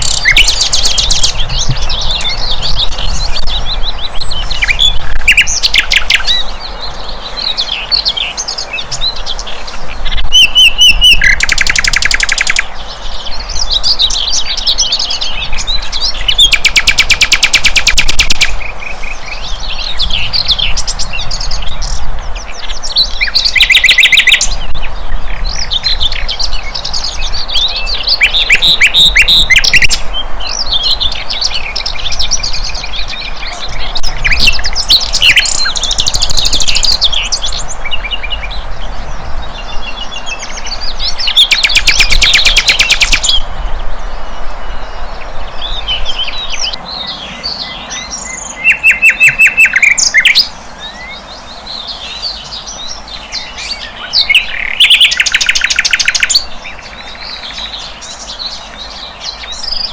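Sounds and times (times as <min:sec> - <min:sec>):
flycatcher singing: 0:00.0 - 0:59.9.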